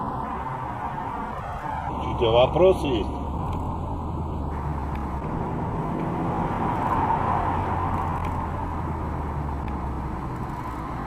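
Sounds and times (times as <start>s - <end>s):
car road noise from inside: 0.0s - 11.0s.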